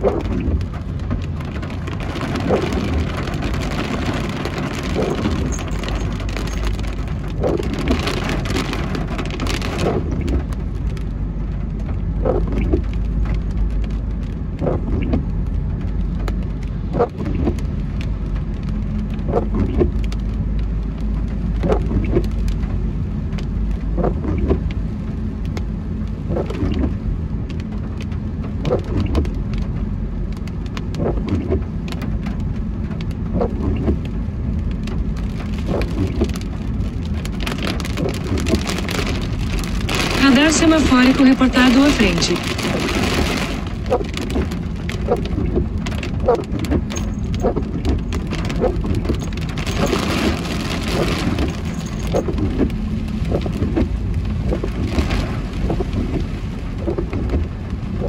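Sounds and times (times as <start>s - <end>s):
engine and tyres rumbling: 0.0s - 58.0s
heavy rain on car: 0.0s - 58.0s
windscreen wipers sweeping: 0.0s - 58.0s.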